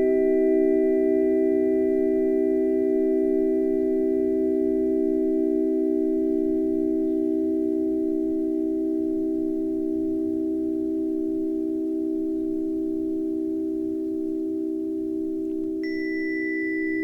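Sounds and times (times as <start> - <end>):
sustained ringing tone: 0.0 - 17.0.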